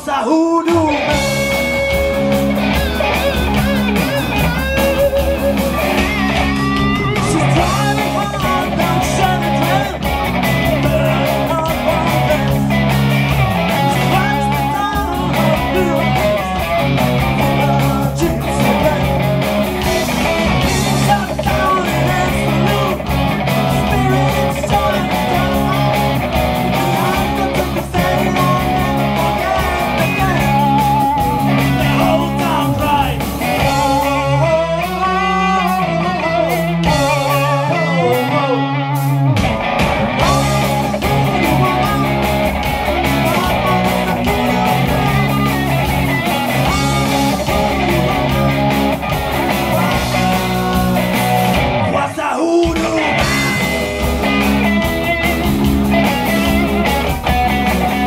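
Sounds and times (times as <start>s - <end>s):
drum kit: 0.0s - 58.0s
electric guitars: 0.0s - 58.0s
person singing: 4.8s - 13.0s, 13.6s - 19.6s, 20.6s - 39.1s, 40.2s - 54.9s.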